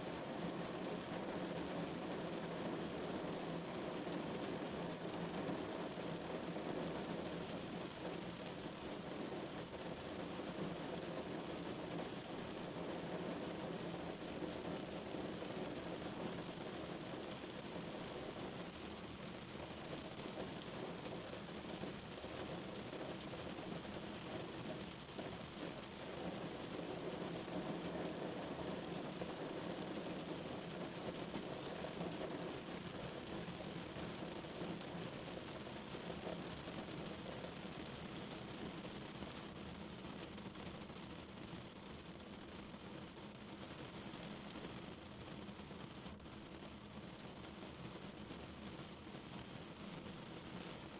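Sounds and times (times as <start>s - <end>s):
rain drumming on a car: 0.0s - 50.9s.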